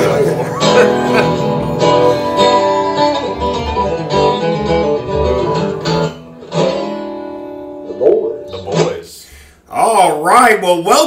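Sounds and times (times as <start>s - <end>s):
country style plucked acoustic guitar: 0.0s - 9.5s.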